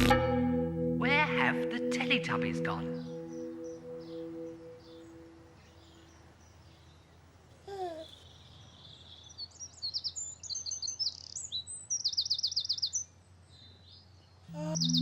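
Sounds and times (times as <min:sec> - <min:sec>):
songbirds chirping and trilling: 0:02.8 - 0:15.0.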